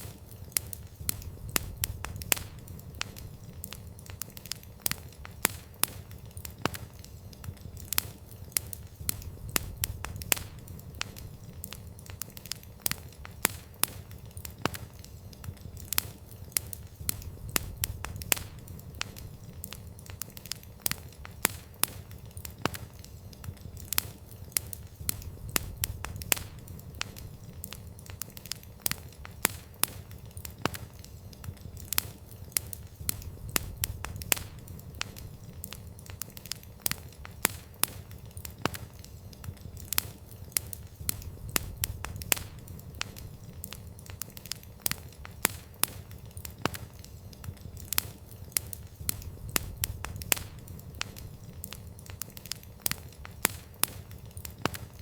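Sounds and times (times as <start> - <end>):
campfire pops and snaps: 0.0 - 55.0
low rumble of burning fire: 0.0 - 55.0.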